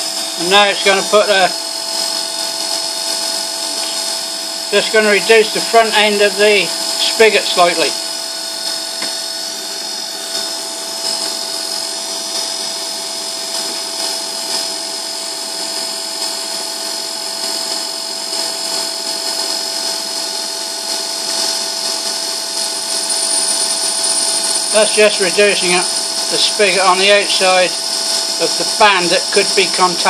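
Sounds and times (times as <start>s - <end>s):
lathe motor whine: 0.0s - 30.0s.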